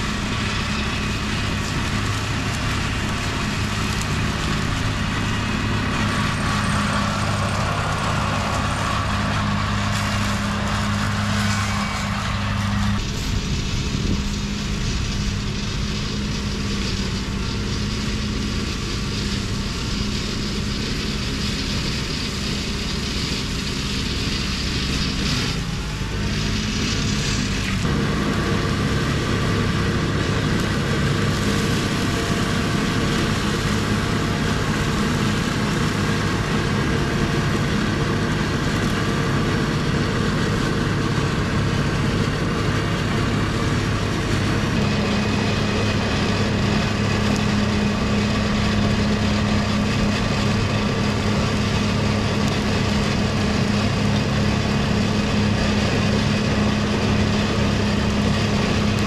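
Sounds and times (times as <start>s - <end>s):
tractor engine hum: 0.0s - 59.0s.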